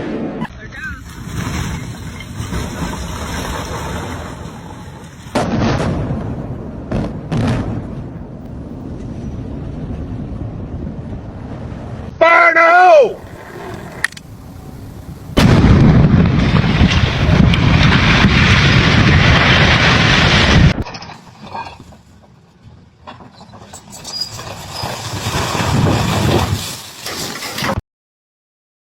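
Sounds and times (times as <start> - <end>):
demolition blast: 0.0 - 12.1, 13.2 - 21.9, 22.7 - 27.8
rumble of collapse: 0.0 - 12.2, 13.0 - 27.8.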